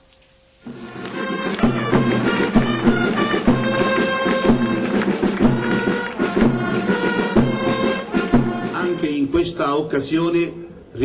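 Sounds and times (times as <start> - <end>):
steady percussion beat: 0.6 - 9.6
band music: 0.7 - 9.9.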